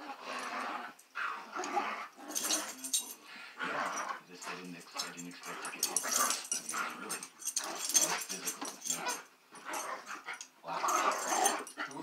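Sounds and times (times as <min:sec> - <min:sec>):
dogs growling: 0:00.0 - 0:12.0.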